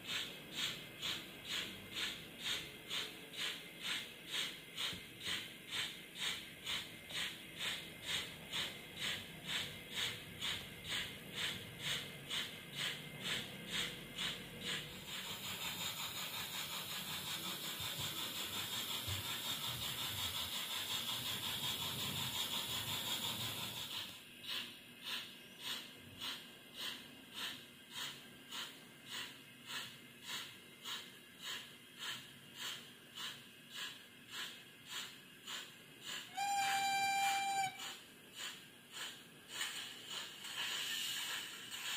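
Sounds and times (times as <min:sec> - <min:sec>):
steam exhaust chuffs from speaker: 0:00.0 - 0:41.9
steam hiss: 0:00.0 - 0:41.9.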